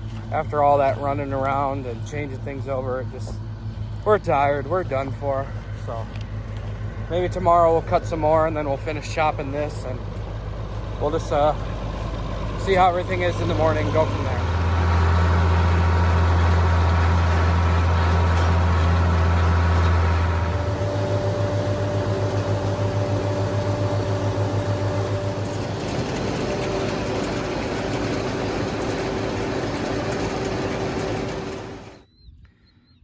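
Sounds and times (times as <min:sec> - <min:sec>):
tractor engine running: 0:00.0 - 0:32.1.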